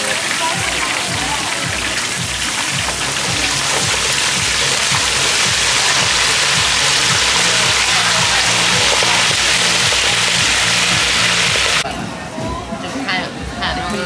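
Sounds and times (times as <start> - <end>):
loud even hiss: 0.0 - 11.8
music with bass beat: 0.1 - 11.9.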